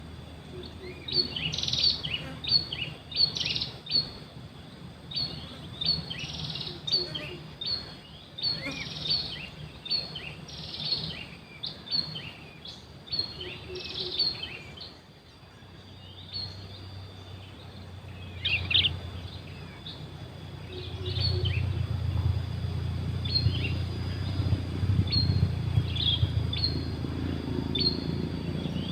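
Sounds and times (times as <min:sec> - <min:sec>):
low background rumble: 0:00.0 - 0:28.9
songbird chirping: 0:00.0 - 0:28.9.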